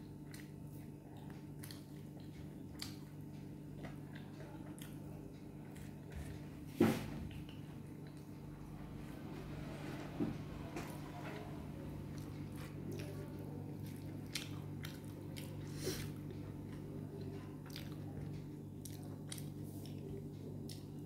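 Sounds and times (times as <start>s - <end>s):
person chewing food: 0.0s - 6.7s, 7.3s - 8.8s, 12.0s - 21.0s
steady low hum: 0.0s - 21.0s.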